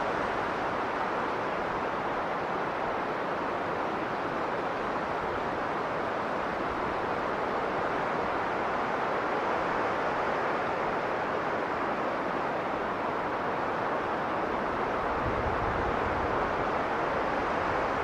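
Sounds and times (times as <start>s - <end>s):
strong blizzard wind: 0.0s - 18.0s.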